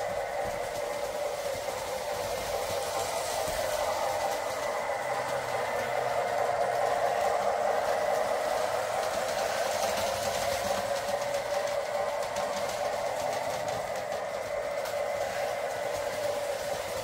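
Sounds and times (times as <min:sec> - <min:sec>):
model train motor whirring: 0:00.0 - 0:17.0
wheels rolling on rails: 0:00.0 - 0:17.0.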